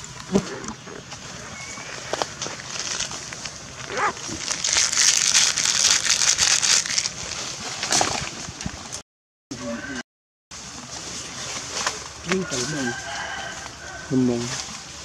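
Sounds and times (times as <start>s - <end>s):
dry leaves rustling and crackling: 1.2s - 9.0s, 10.6s - 15.0s.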